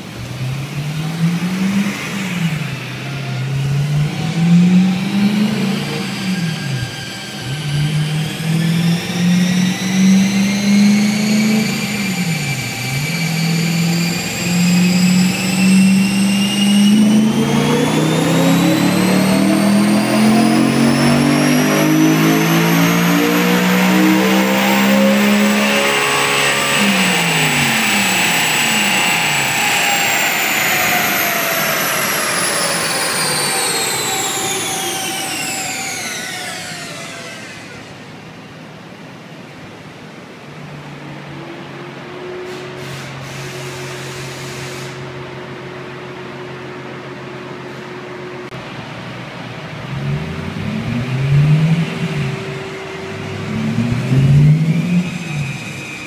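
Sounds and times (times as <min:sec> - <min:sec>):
car engine revving: 0:00.0 - 0:42.6, 0:45.2 - 0:56.0
high whine: 0:00.0 - 0:56.0.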